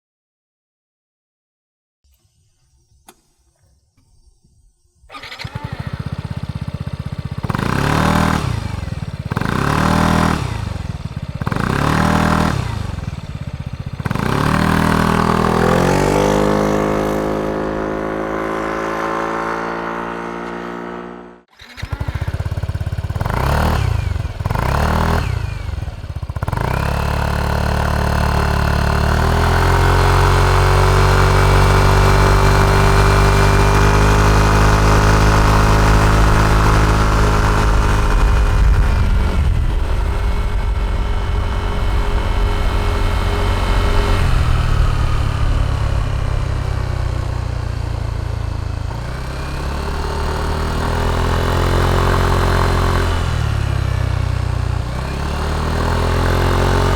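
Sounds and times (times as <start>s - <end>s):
scooter engine revving: 5.1s - 56.9s.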